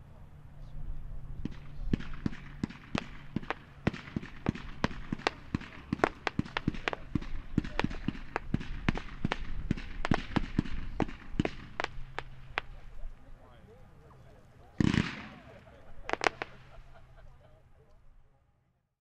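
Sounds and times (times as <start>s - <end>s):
firework cake firing sharp reports: 1.4s - 17.4s.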